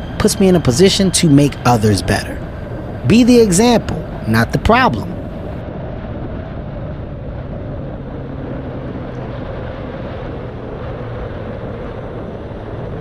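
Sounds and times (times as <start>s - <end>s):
motorcycle engine hum: 0.0s - 13.0s
wind noise: 0.0s - 13.0s.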